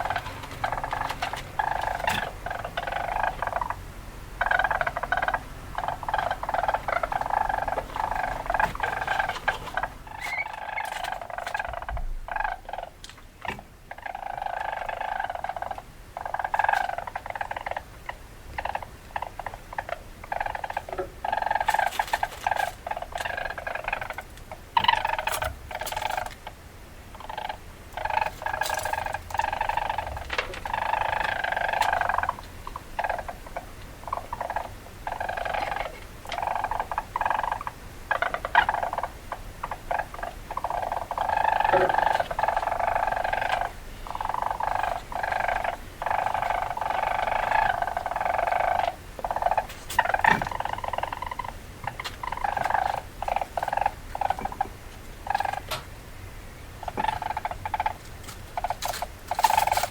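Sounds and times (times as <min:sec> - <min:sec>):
weasel chattering: 0:00.0 - 0:13.0, 0:13.9 - 0:55.8, 0:56.8 - 0:59.9.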